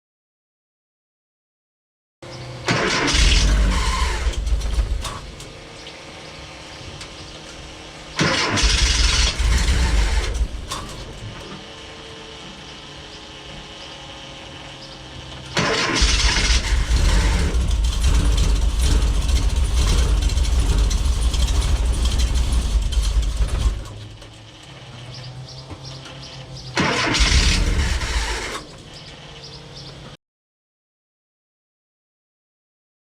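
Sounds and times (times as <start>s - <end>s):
engine cranking and rumbling: 2.2s - 30.2s.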